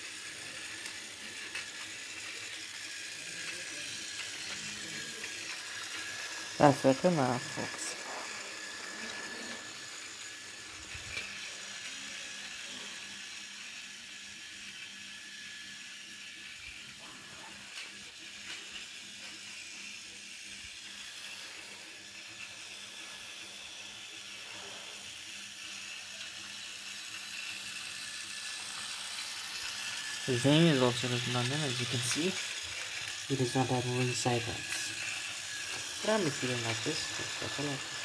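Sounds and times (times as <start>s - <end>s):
toy train motor whirring: 0.0s - 38.0s.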